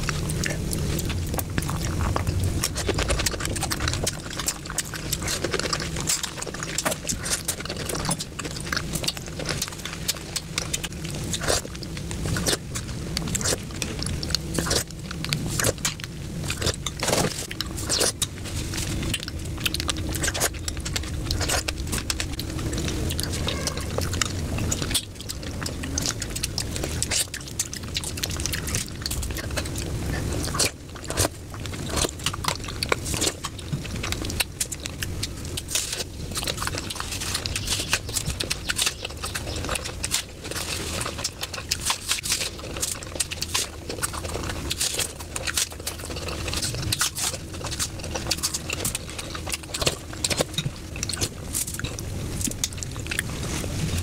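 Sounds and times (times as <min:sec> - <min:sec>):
close chewing with crisp crunches: 0:00.0 - 0:54.0
wet mouth sounds: 0:00.0 - 0:54.0.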